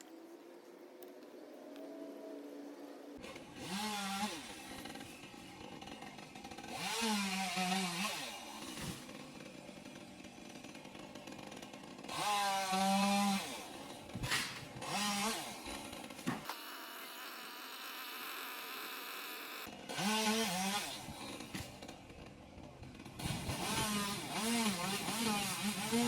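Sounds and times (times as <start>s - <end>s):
chainsaw revving: 3.2s - 26.0s.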